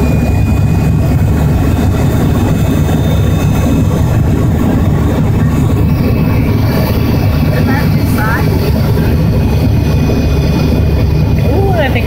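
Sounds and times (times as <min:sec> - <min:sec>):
airflow: 0:00.0 - 0:12.0
jet engine rumble in cabin: 0:00.0 - 0:12.0.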